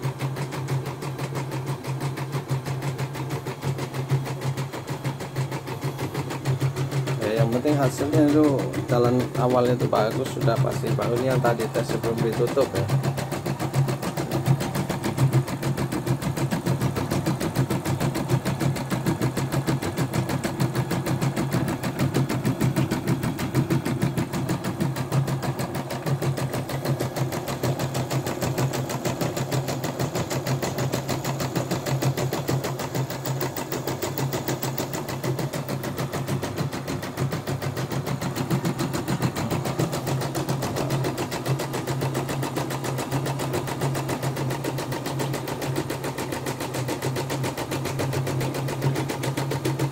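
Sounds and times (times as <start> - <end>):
embroidery machine stitching: 0.0 - 49.9.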